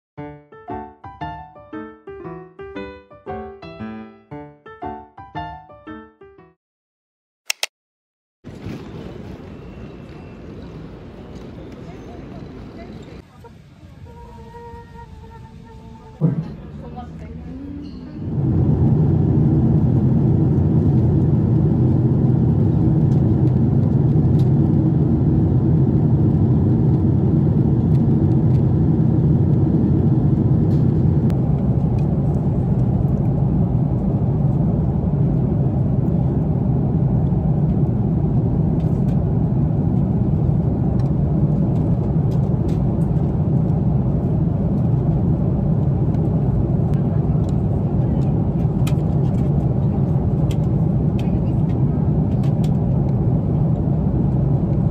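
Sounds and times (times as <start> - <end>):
airliner cabin drone: 8.5 - 54.9.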